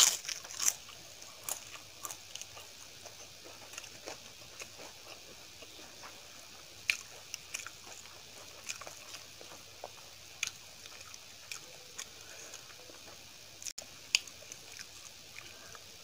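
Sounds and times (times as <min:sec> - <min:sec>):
wet squishing of food: 0:00.0 - 0:15.9.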